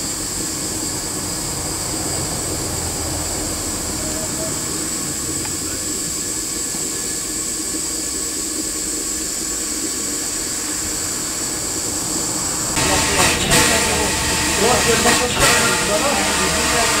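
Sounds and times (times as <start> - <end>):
steam hissing from locomotive: 0.0 - 17.0.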